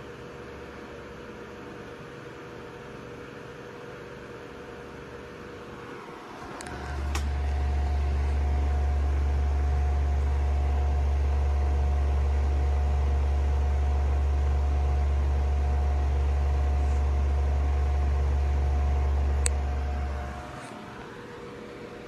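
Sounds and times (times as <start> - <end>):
faint steady whine: 0.0 - 22.0
inverter low hum: 0.0 - 22.0.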